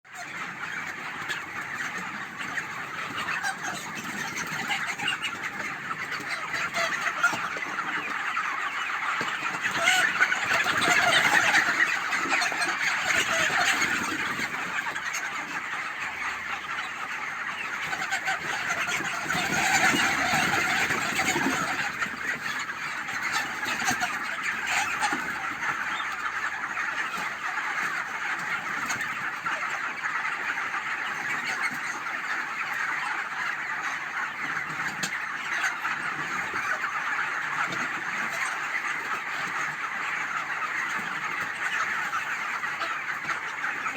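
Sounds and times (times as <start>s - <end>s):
chickens clucking and chirping: 0.0s - 43.9s.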